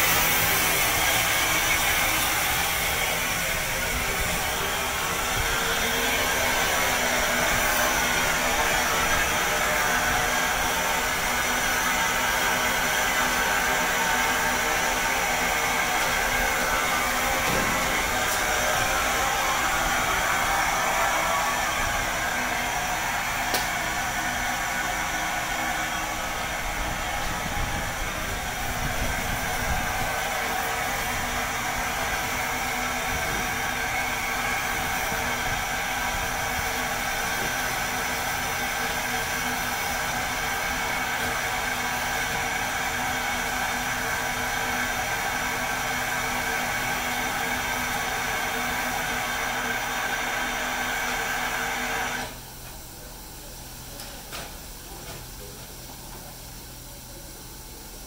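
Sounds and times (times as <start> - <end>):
locomotive hissing steam: 0.0 - 58.0.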